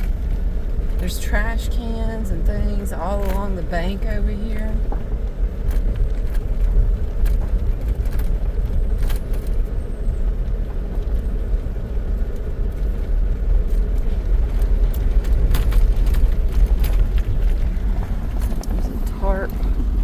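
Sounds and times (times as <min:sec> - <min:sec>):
light rattles and clicks: 0:00.0 - 0:20.0
low rumble of tyres and engine: 0:00.0 - 0:20.0.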